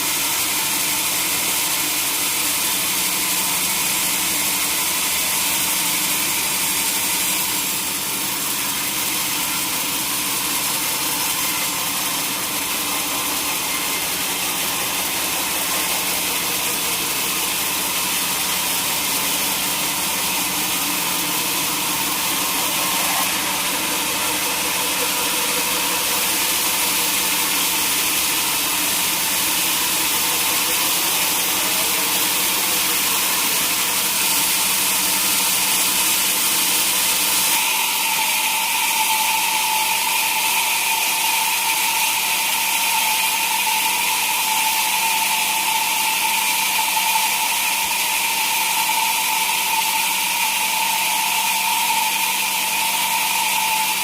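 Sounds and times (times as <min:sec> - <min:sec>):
sawmill saw running: 0:00.0 - 0:54.0.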